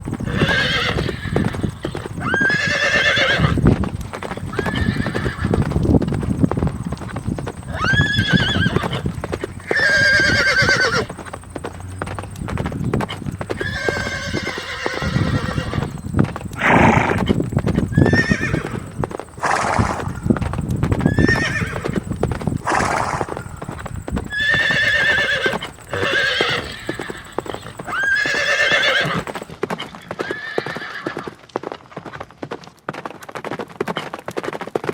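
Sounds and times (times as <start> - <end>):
horses neighing: 0.0 - 31.4
hooves clattering: 0.0 - 34.9.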